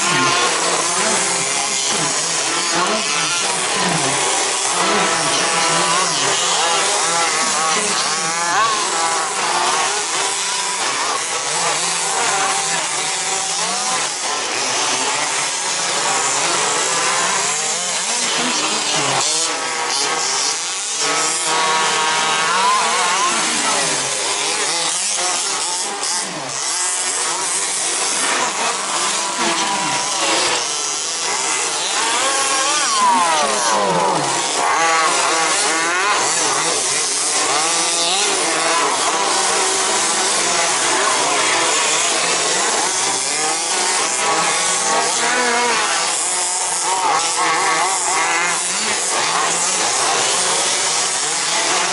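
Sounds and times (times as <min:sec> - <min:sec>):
toy car motors whining: 0:00.0 - 0:51.9.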